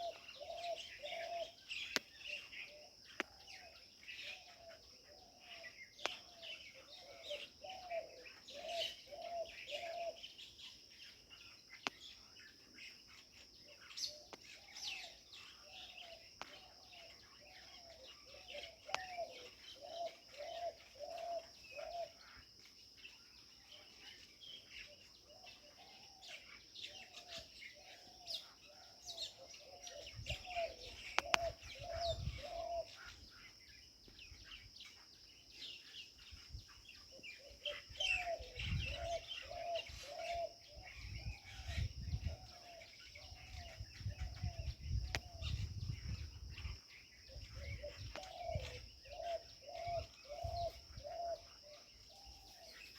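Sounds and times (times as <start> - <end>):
birds calling and chirping: 0.0 - 52.9.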